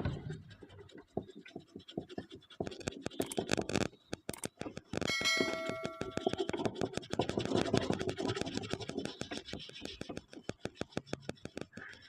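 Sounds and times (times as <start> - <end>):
dense scratching: 0.0 - 12.0
rapid small clicks: 0.0 - 12.0.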